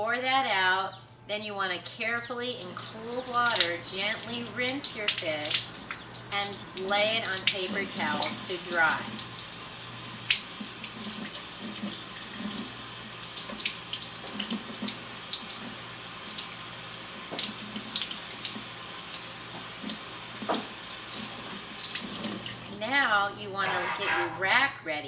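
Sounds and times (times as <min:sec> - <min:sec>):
water running from faucet into sink: 0:02.5 - 0:22.8.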